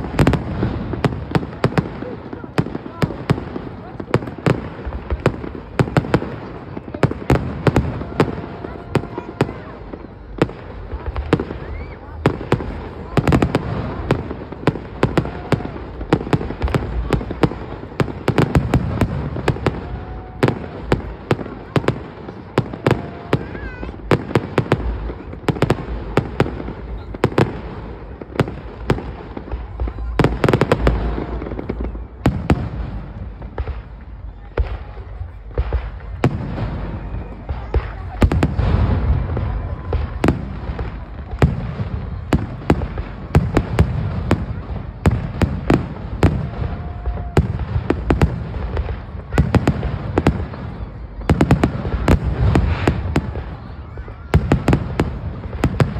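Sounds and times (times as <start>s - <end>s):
firework booms rumbling: 0.0s - 55.9s
firework cracks: 0.0s - 55.9s.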